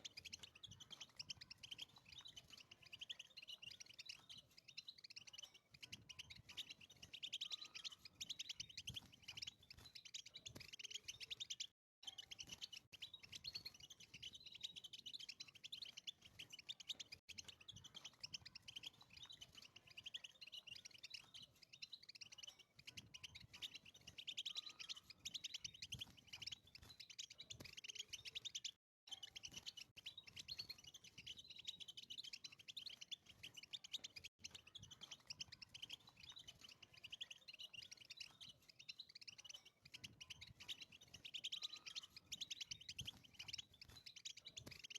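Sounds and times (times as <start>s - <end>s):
finch twittering song: 0.0s - 44.9s.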